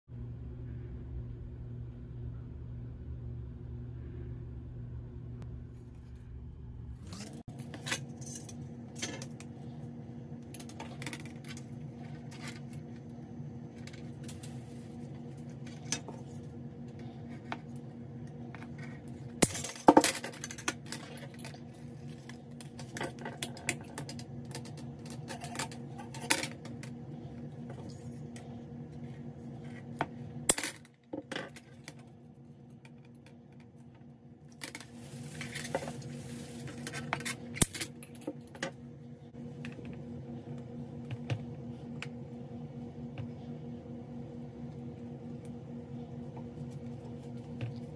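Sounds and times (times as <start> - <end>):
steady low hum: 0.1 - 47.9.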